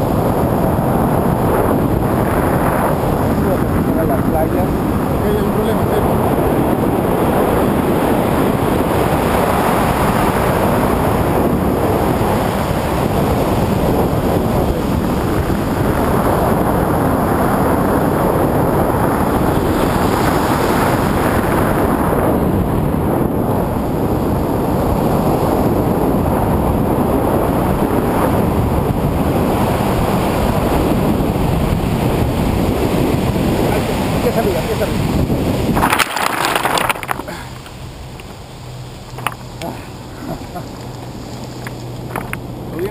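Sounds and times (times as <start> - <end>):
loud wind on microphone: 0.0 - 42.9.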